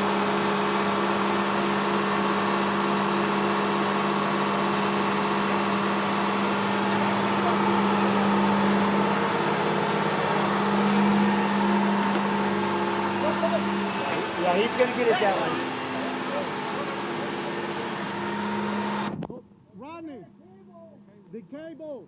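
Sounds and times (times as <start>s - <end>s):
large engine droning: 0.0s - 19.2s.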